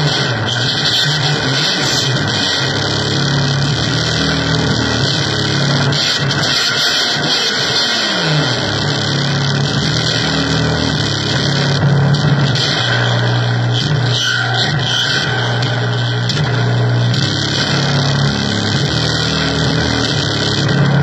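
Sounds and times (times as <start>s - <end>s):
distorted electronic noise music: 0.0s - 21.0s.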